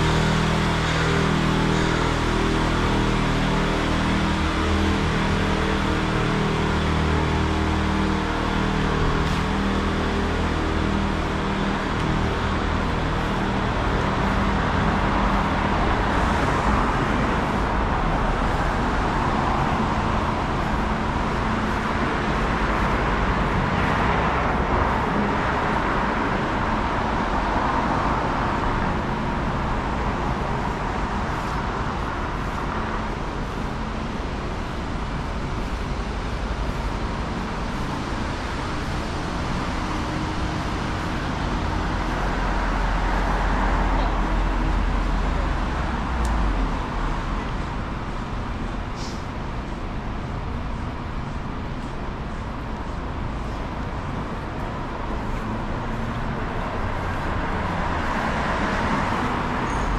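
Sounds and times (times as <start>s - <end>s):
loud car passing: 0.0s - 49.8s, 52.8s - 59.9s
engine running close by: 0.0s - 59.9s
passing cars: 0.0s - 59.9s.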